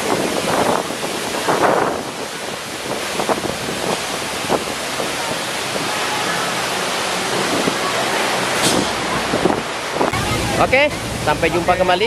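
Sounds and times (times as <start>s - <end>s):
waterfall rushing and splashing: 0.0s - 12.0s.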